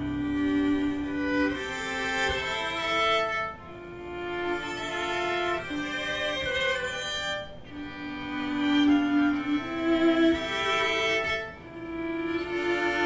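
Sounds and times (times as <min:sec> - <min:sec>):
string ensemble playing: 0:00.0 - 0:13.0.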